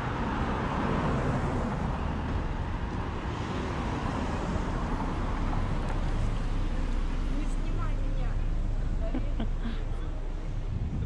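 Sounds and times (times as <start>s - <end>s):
cars driving past: 0.0s - 11.0s
traffic hum: 0.0s - 11.0s.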